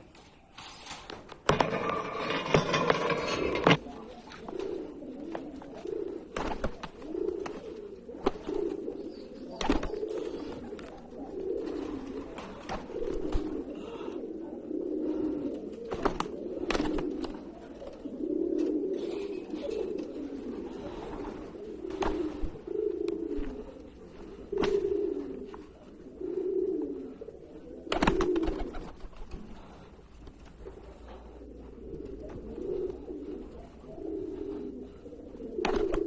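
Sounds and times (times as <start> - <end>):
pigeon cooing: 1.5 - 36.0.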